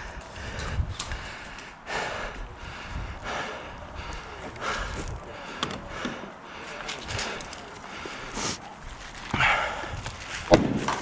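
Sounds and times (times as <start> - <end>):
person breathing heavily: 0.0 - 8.6, 9.3 - 10.5.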